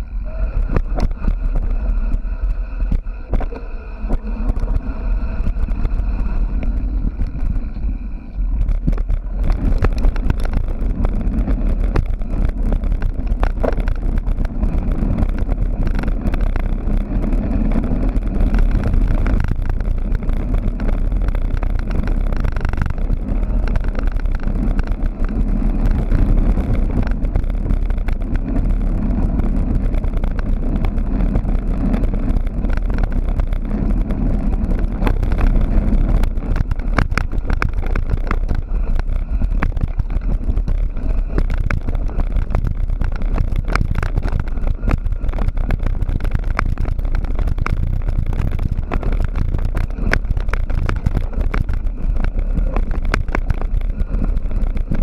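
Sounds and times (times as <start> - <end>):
bike rattling and knocking: 0.0 - 55.0
wind rushing over microphone: 0.0 - 55.0.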